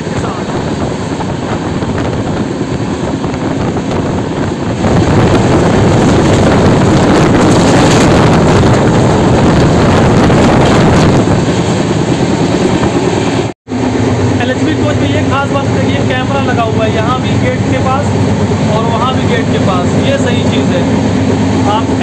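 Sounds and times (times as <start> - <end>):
moving train running noise: 0.0 - 22.0
wind rushing over microphone: 0.0 - 22.0.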